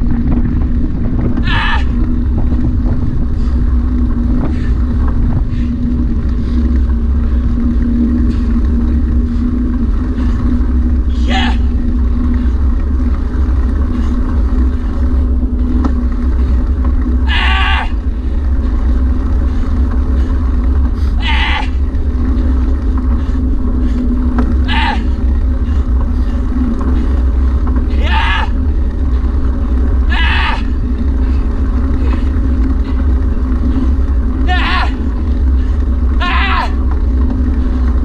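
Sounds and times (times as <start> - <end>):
vehicle engine hum: 0.0 - 38.0.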